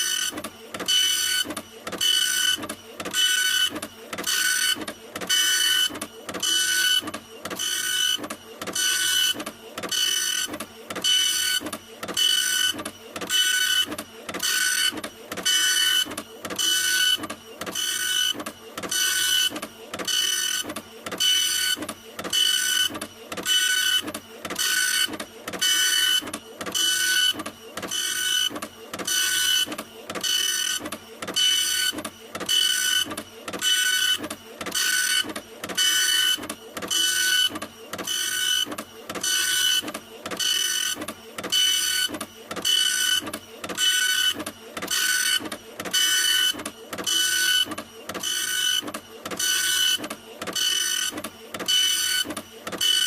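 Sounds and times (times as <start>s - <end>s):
printer mechanism whining: 0.0s - 53.0s.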